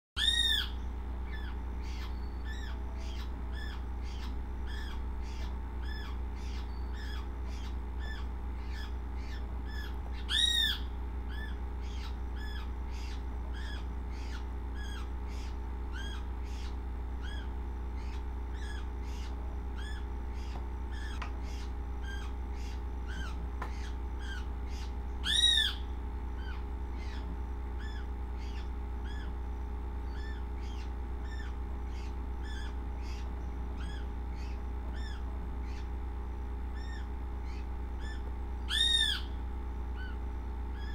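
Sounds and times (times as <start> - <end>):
bird-like chirps: 0.2 - 40.9
steady low hum: 0.2 - 40.9.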